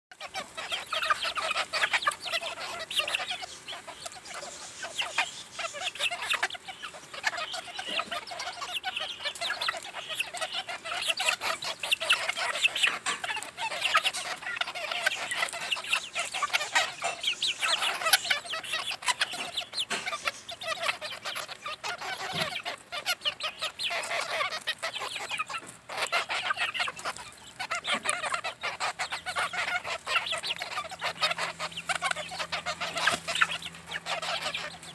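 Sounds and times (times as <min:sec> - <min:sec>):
beaks pecking: 0:00.1 - 0:34.9
hens clucking: 0:00.1 - 0:34.9.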